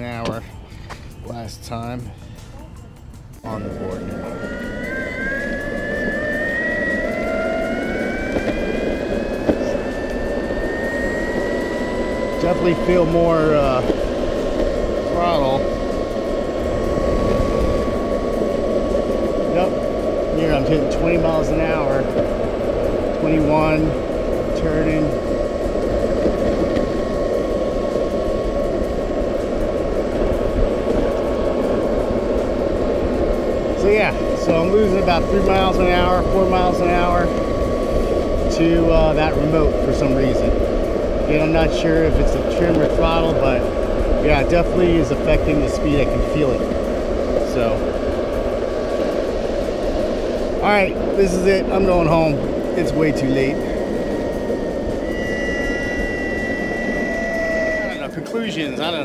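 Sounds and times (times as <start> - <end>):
electric motor whine: 0.0 - 59.0
wheels rumbling on pavement: 0.0 - 59.0
wind buffeting microphone: 0.0 - 59.0.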